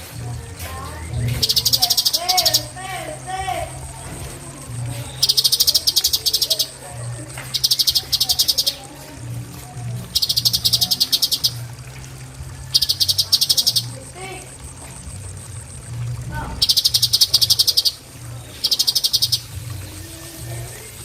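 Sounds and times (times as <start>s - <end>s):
steady low hum: 0.0s - 21.0s
bird singing buzzy high trills: 0.7s - 20.9s
soft lower chirping: 0.8s - 20.2s.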